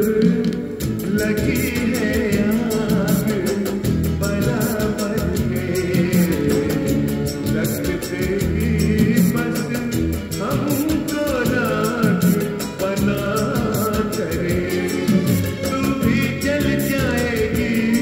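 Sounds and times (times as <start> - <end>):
film song from vinyl record: 0.0 - 18.0.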